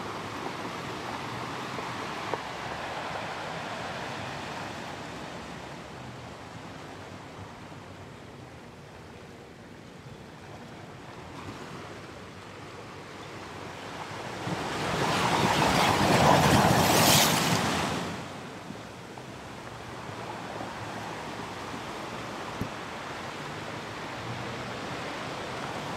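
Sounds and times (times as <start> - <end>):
ocean waves: 0.0 - 25.9.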